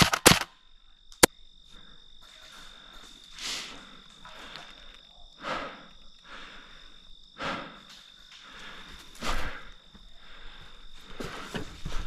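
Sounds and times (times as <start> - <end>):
insects buzzing high-pitched: 0.0 - 11.0.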